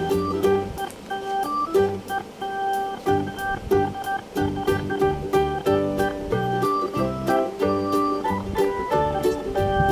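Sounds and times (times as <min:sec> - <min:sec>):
plucked-string tune with beat: 0:00.0 - 0:09.9.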